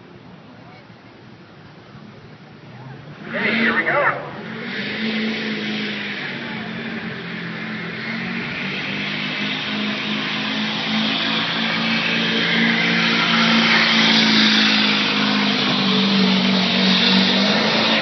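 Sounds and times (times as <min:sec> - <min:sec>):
diesel engine at high revs: 0:02.6 - 0:18.0.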